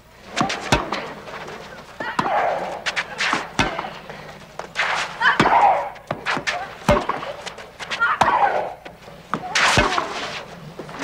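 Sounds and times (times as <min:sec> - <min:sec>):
racket hitting tennis ball: 0:00.3 - 0:11.0.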